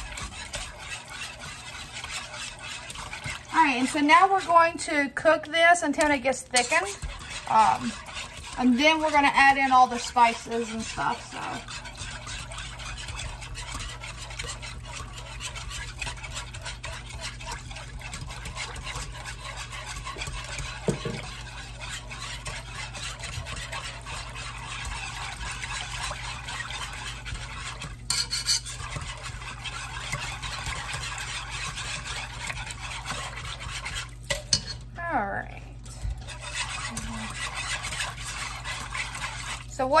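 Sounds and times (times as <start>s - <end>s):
whisk scraping in a pot: 0.0s - 40.0s.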